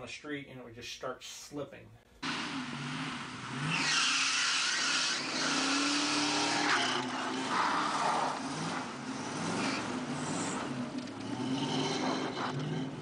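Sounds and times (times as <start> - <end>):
car engine revving: 2.2 - 13.0.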